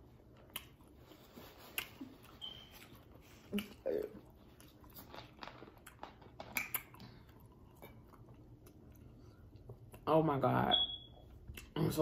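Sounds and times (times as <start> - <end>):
people chewing and smacking: 0.0 - 10.2, 10.9 - 12.0.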